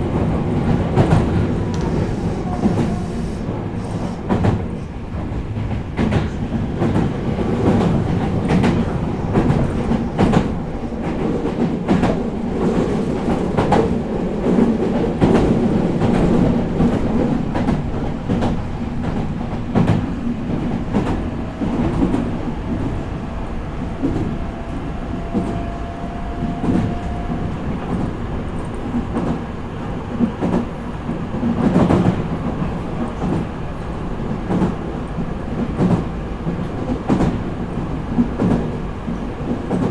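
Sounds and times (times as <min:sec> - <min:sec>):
electric train rumble: 0:00.0 - 0:39.9.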